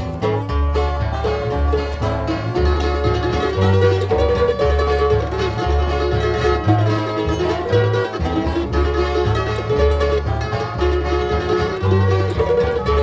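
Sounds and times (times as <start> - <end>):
bluegrass band playing: 0.0 - 13.0.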